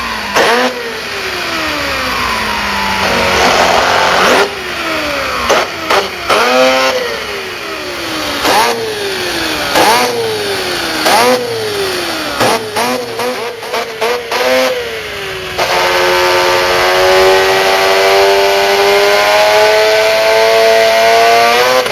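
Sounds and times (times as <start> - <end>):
toy car engine revving: 0.0 - 21.9.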